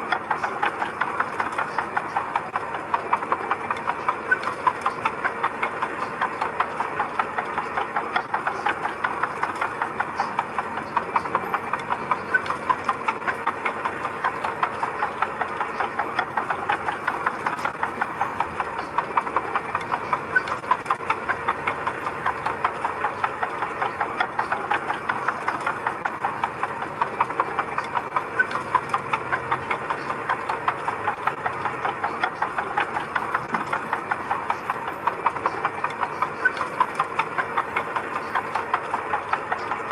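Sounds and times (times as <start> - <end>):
diesel engine running: 0.0 - 39.9
fast clatter of sharp clicks: 0.0 - 39.9.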